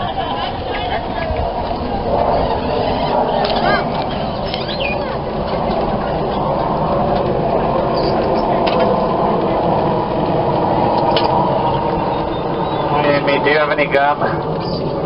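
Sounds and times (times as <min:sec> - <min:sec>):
indistinct voices: 0:00.0 - 0:15.0
vehicle engine rumble: 0:00.0 - 0:15.0.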